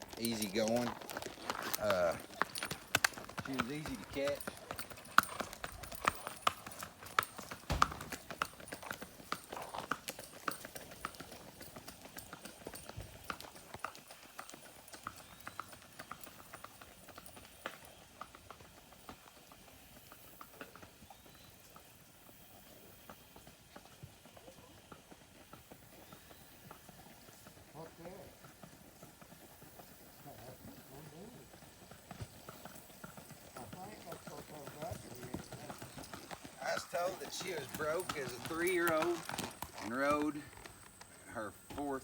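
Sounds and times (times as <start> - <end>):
horse hoofbeats on road: 0.0 - 42.0.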